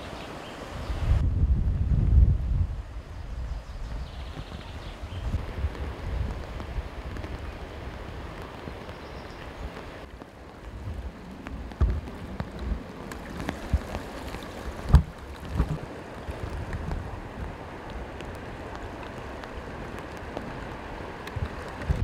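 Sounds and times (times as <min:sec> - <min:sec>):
river rushing: 0:00.0 - 0:01.2, 0:02.8 - 0:22.0.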